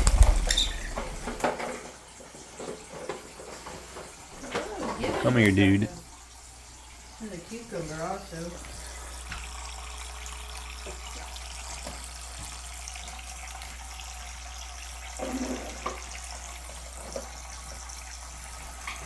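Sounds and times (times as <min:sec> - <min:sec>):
water running and splashing: 0:00.0 - 0:19.0.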